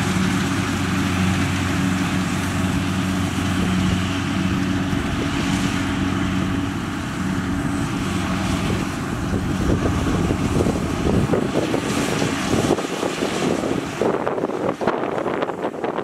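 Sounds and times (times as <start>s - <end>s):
combine harvester engine running: 0.0s - 16.0s
wind buffeting microphone: 0.0s - 16.0s.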